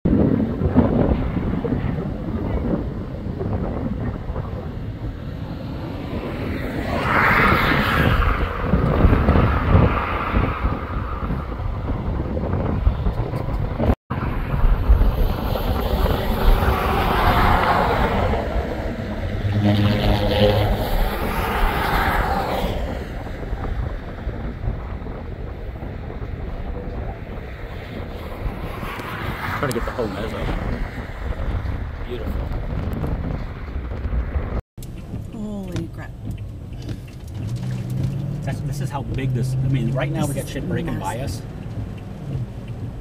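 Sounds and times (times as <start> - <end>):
vehicles passing on a road: 0.1 - 43.0
wind noise on microphone: 0.1 - 43.0.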